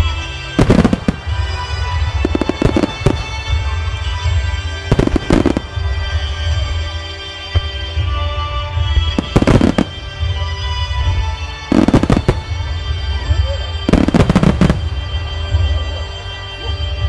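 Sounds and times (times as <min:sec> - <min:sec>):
fireworks shells bursting: 0:00.0 - 0:08.2, 0:08.8 - 0:16.3
dense fireworks crackling: 0:00.0 - 0:17.0
music playing: 0:00.0 - 0:17.0.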